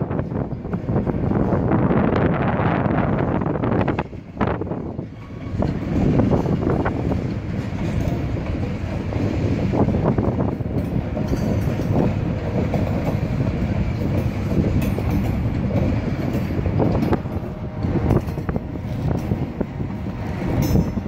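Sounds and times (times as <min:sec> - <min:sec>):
train wheels rumbling on rails: 0:00.0 - 0:21.0
clacks over rail joints: 0:03.7 - 0:21.0.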